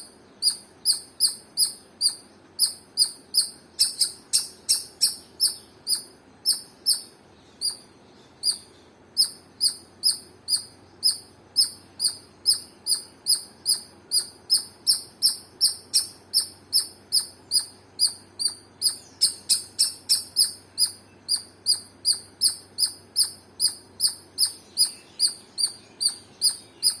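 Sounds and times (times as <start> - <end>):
squirrel chirping: 0.0 - 27.0.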